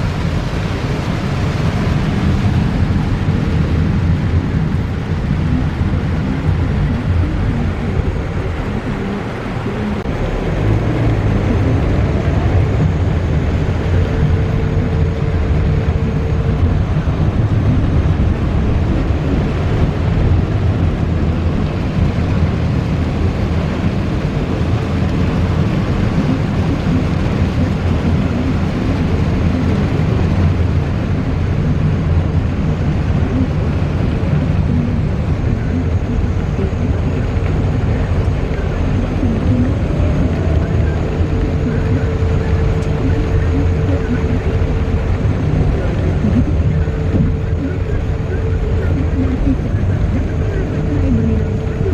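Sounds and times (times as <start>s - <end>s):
car engine and tyres on wet road: 0.0s - 51.9s
rain hiss: 0.0s - 51.9s.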